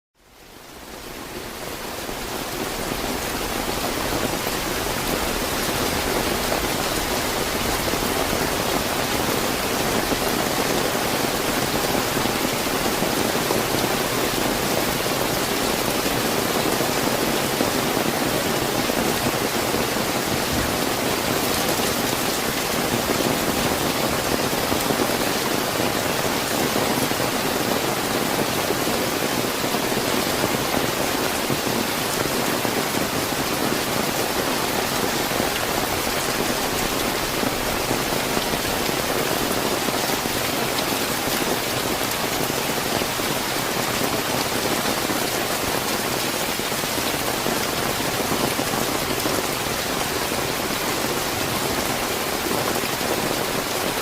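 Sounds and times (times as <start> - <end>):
heavy rain pattering: 0.2 - 54.0.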